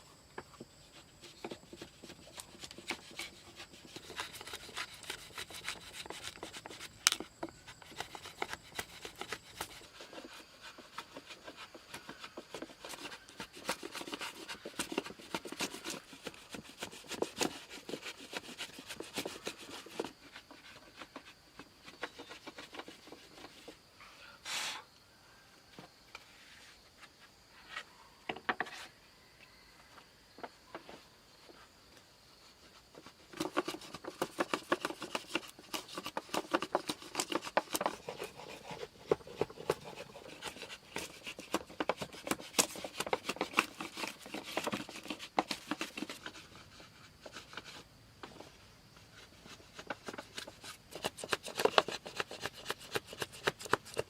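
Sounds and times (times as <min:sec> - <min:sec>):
hand tool scraping wood: 0:00.4 - 0:23.9, 0:26.2 - 0:29.0, 0:32.5 - 0:54.0.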